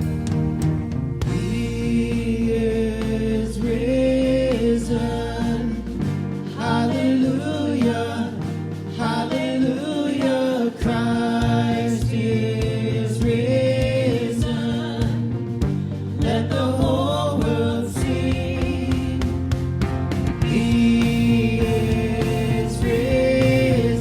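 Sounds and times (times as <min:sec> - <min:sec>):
instrumental accompaniment: 0:00.0 - 0:24.0
steady bass line: 0:00.0 - 0:24.0
voices singing a hymn-like song: 0:01.2 - 0:19.8, 0:20.4 - 0:24.0.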